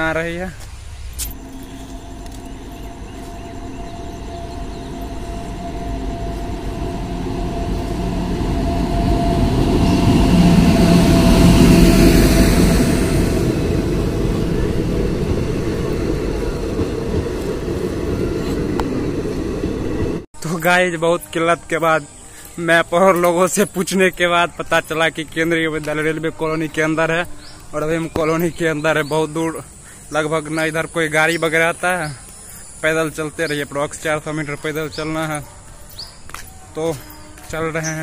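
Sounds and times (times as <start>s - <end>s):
passenger train passing: 1.4s - 38.0s.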